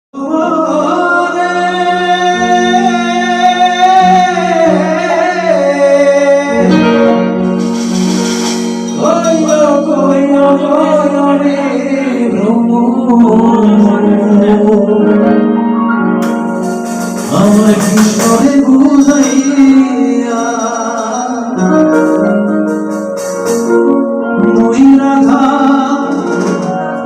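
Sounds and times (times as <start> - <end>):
electronic keyboard folk melody: 0.2 - 27.0.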